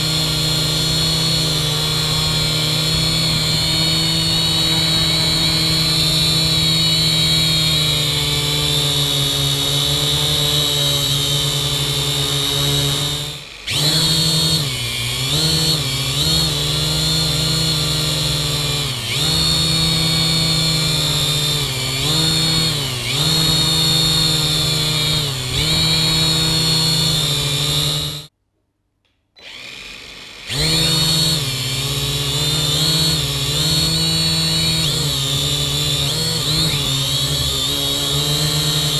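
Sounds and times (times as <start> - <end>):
quadcopter propellers whirring: 0.0 - 28.3, 29.4 - 38.9.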